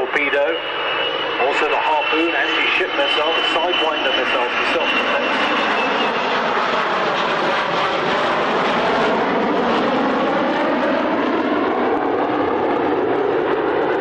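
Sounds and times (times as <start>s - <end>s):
jet aircraft flying past: 0.0s - 14.0s.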